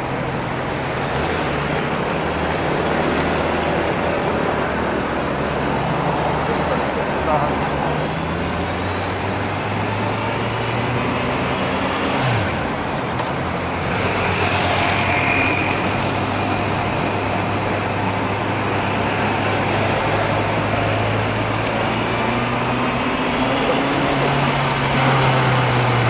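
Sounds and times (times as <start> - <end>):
city traffic: 0.0 - 26.0.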